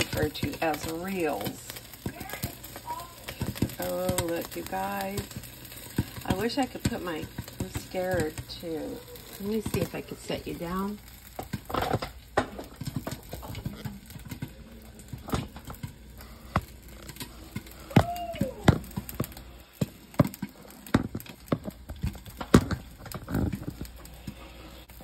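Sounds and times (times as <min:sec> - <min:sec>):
popcorn popping in skillet: 0:00.0 - 0:25.0.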